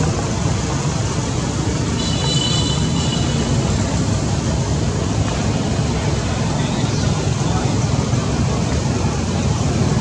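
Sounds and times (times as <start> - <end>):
loud rumbling background noise: 0.0 - 10.0.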